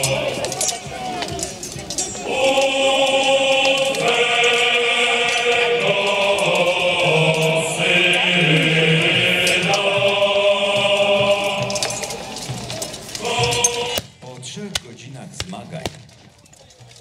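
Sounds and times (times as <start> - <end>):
choral music over loudspeakers: 0.0 - 14.3.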